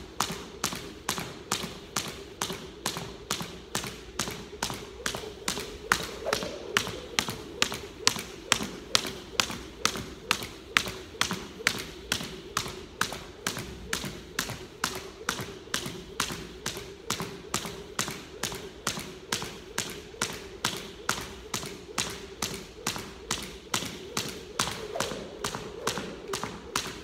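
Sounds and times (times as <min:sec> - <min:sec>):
jump rope slapping wooden floor: 0:00.0 - 0:27.0.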